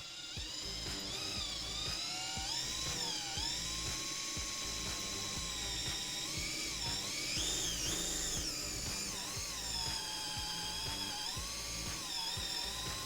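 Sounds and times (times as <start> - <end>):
cordless drill motor whining: 0.0 - 13.0.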